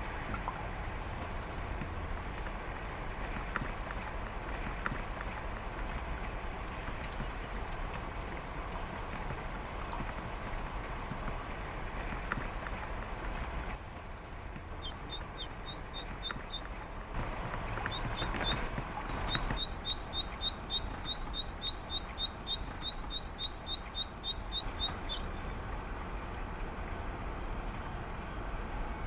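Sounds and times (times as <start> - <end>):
rain hissing: 0.0 - 29.0.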